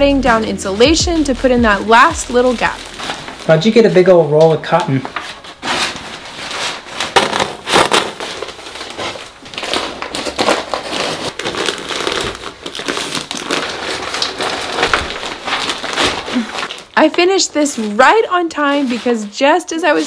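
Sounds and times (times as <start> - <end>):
insulation rustling and crackling: 0.0 - 20.0.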